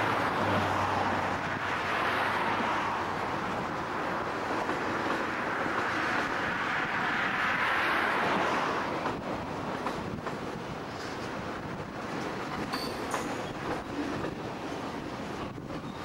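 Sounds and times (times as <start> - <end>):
train wheels on track: 0.0 - 16.0.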